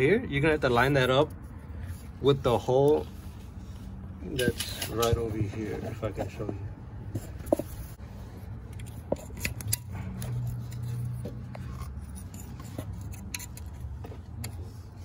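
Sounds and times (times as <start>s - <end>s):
clicks and scrapes of handling: 0.8s - 15.0s.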